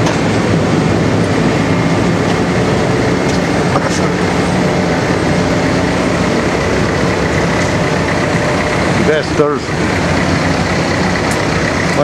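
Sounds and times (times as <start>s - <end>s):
heavy engine running: 0.0s - 12.0s.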